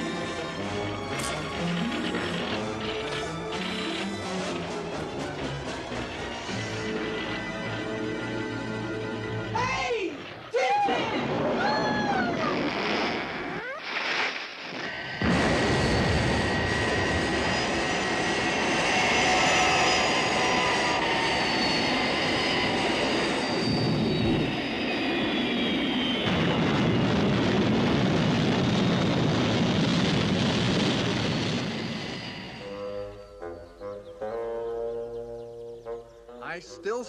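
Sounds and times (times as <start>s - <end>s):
falling engine whines: 0.0s - 9.5s, 11.4s - 36.2s
aircraft engines rushing: 0.0s - 9.6s, 11.3s - 37.0s.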